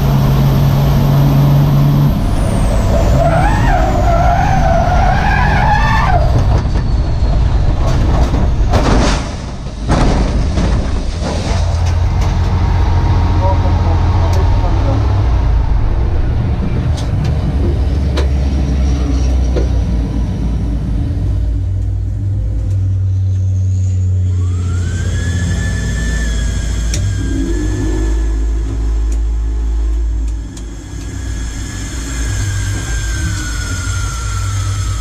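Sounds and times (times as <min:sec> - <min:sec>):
diesel engine rumble: 0:00.0 - 0:35.0
whine: 0:00.0 - 0:35.0.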